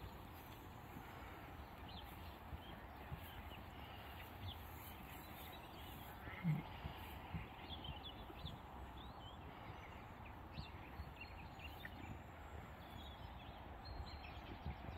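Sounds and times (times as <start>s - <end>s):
bird calls: 0.0s - 14.9s
steady background noise: 0.0s - 14.9s.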